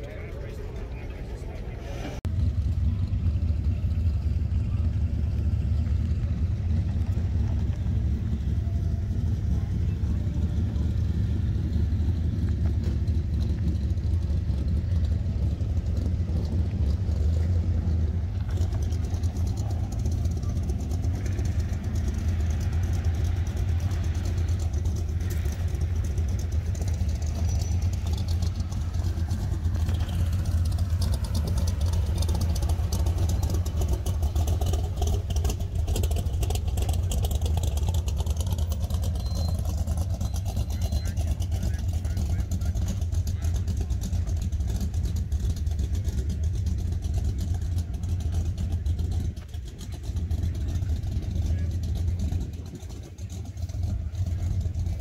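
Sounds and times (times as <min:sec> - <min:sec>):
truck rolling on gravel: 0:00.0 - 0:55.0
vehicle engine droning: 0:00.0 - 0:55.0.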